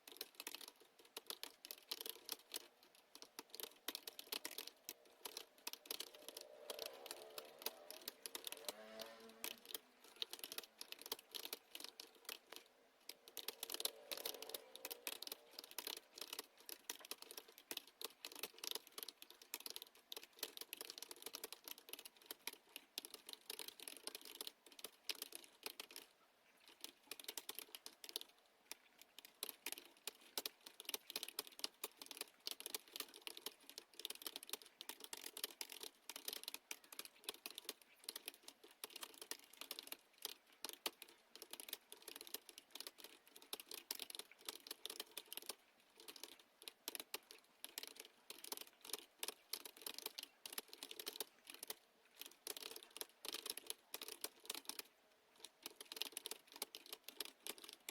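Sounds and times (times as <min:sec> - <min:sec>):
fast keyboard typing: 0:00.0 - 0:57.9.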